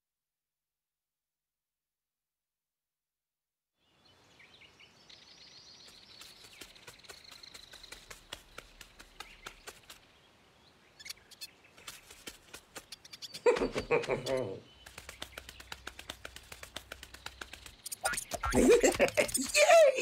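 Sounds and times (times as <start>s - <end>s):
birds chirping and trilling: 3.8s - 19.9s.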